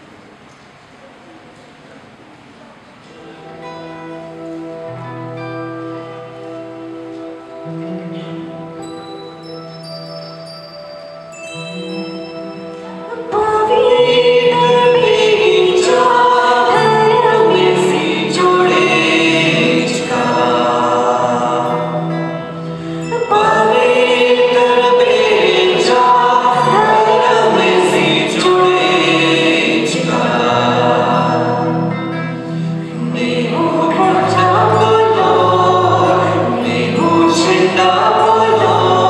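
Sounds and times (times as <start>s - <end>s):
song with singing voices: 3.4s - 39.0s.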